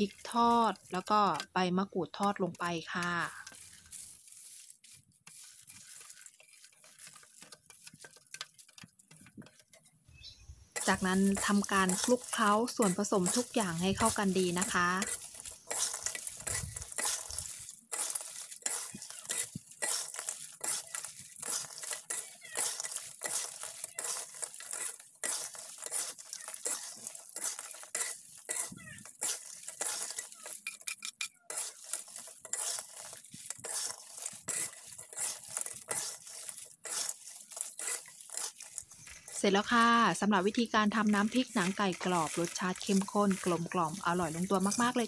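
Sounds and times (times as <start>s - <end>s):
spatula scraping in a wok: 0.0s - 1.5s, 2.2s - 45.0s
dry crackly rustling: 0.0s - 10.1s, 10.7s - 45.0s.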